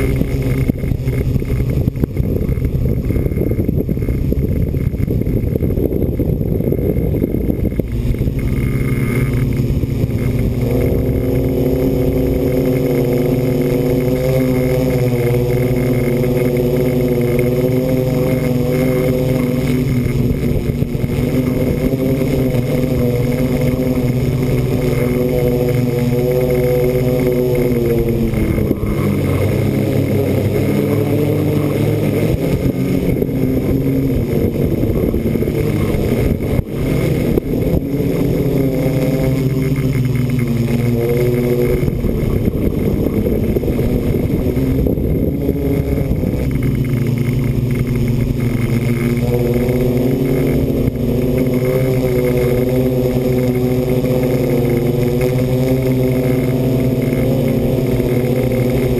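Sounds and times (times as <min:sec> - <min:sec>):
multicopter motors buzzing: 0:00.0 - 0:58.9.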